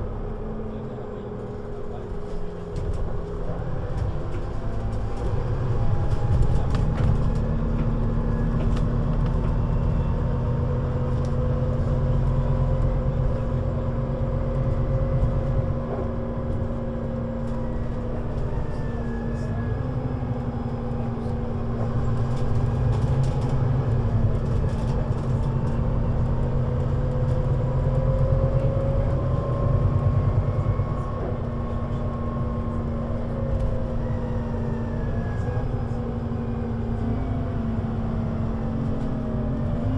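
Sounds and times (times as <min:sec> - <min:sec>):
diesel bus engine droning: 0:00.0 - 0:39.9.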